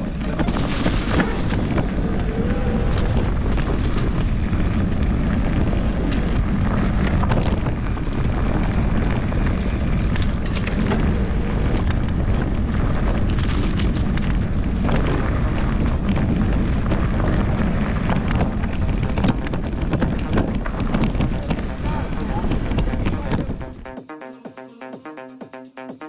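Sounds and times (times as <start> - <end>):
wind buffeting microphone: 0.0 - 23.7
bike rattling and knocking: 0.0 - 23.8.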